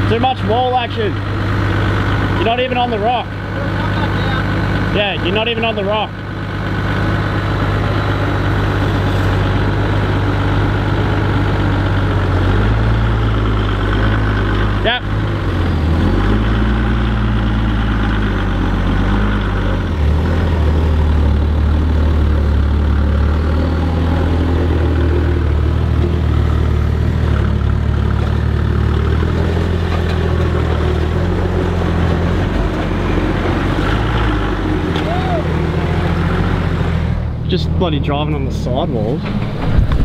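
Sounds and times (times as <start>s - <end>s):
vehicle engine revving under load: 0.0s - 40.0s.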